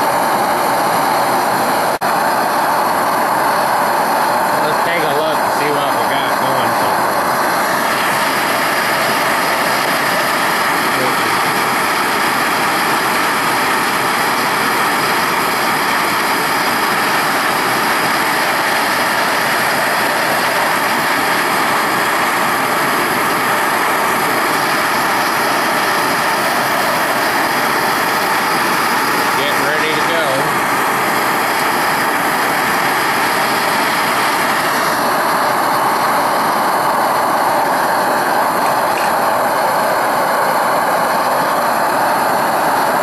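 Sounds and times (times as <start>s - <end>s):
torch flame roaring: 0.0s - 43.0s.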